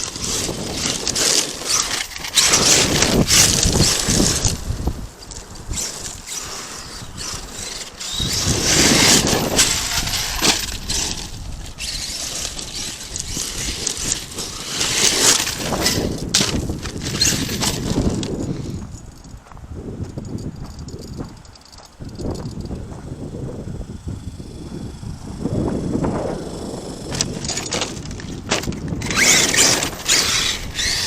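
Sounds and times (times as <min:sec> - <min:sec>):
rc truck electric motor: 0:00.0 - 0:19.1, 0:20.8 - 0:31.0.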